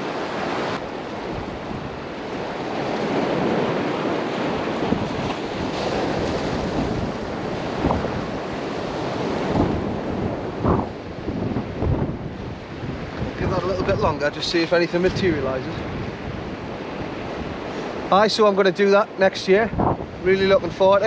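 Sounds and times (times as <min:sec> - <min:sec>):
sea surf on shore: 0:00.0 - 0:21.0
wind buffeting microphone: 0:00.0 - 0:21.0.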